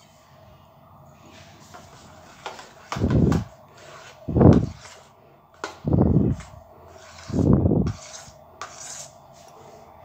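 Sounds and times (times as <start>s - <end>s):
spoon stirring batter in steel bowl: 1.2s - 9.6s.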